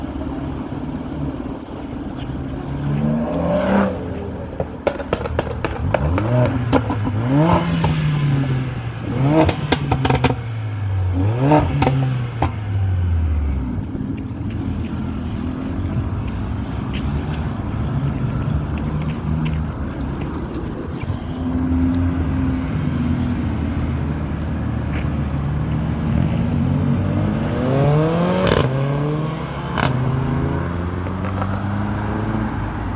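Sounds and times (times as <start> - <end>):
car engine revving: 0.0 - 20.0, 21.0 - 32.9
exhaust pops: 1.4 - 10.6, 11.2 - 12.7, 13.6 - 32.6.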